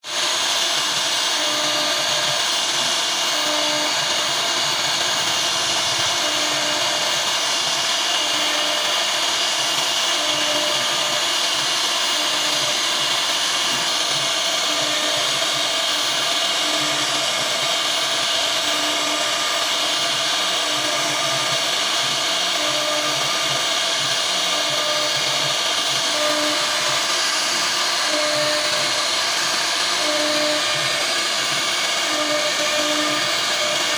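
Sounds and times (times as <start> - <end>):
router spindle whirring: 0.0 - 33.9.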